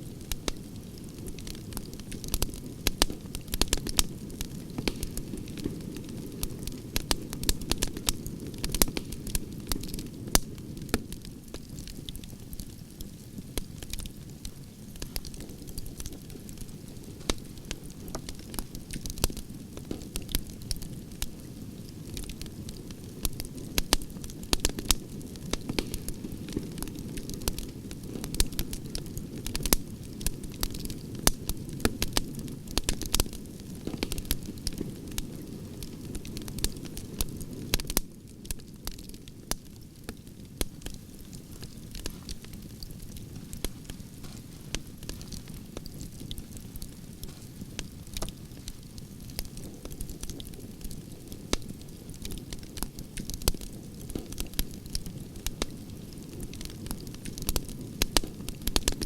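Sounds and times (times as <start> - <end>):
campfire crackling and popping: 0.0 - 59.0
low rush of flames: 0.0 - 59.0.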